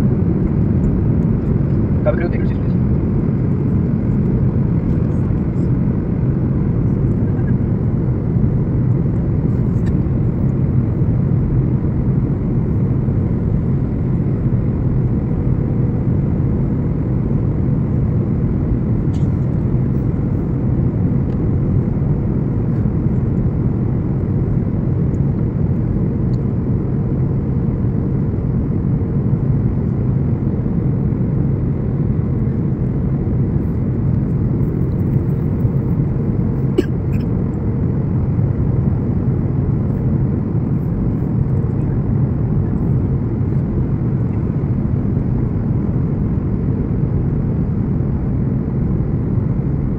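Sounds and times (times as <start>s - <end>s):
airliner cabin engine rumble: 0.0s - 49.9s
faint steady hum: 0.0s - 49.9s.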